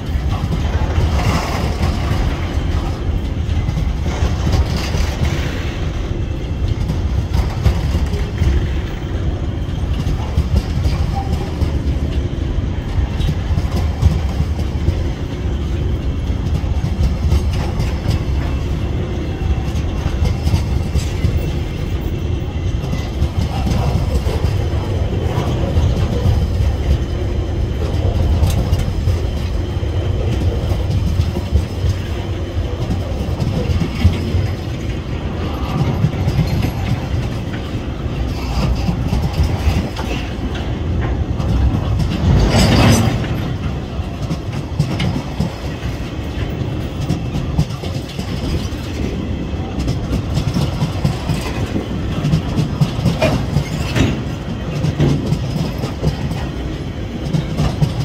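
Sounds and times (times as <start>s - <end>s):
train wheels rumbling on rail: 0.0s - 58.0s
wheels clicking over track: 0.0s - 58.0s.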